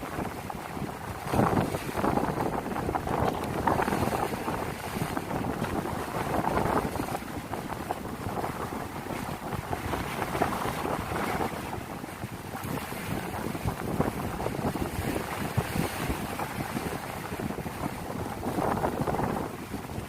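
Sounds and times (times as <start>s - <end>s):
choppy sea waves: 0.0s - 20.0s
wind buffeting microphone: 0.0s - 20.0s.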